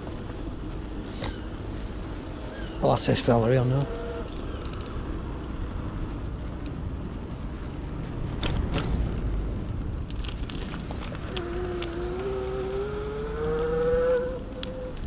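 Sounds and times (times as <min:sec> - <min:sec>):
bike road noise: 0:00.0 - 0:15.0
wind buffeting microphone: 0:00.0 - 0:15.0.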